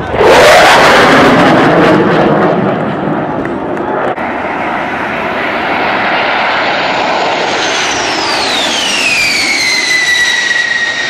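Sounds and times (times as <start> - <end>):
high turbine whine dropping in pitch: 0.0 - 11.0
jet engines rushing: 0.0 - 11.0.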